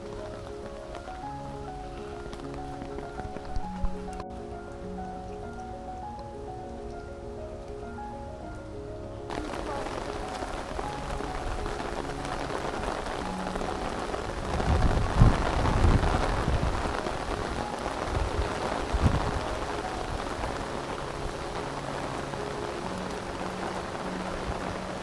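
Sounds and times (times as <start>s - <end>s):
heavy rain pattering: 0.0s - 25.0s
low rumbles: 0.0s - 25.0s.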